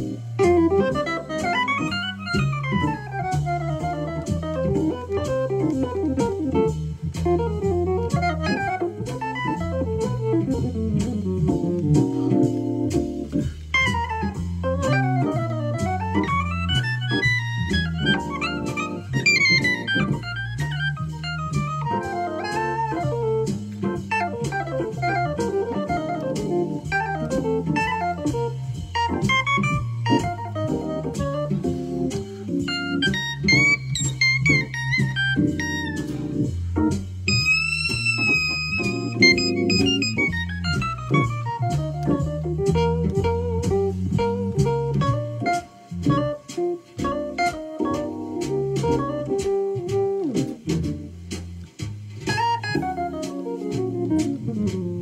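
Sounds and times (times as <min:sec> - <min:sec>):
bass: 0:00.0 - 0:55.0
drums: 0:00.0 - 0:55.0
electronic wind instrument jazz solo: 0:00.0 - 0:55.0
organ trio backing track: 0:00.0 - 0:55.0.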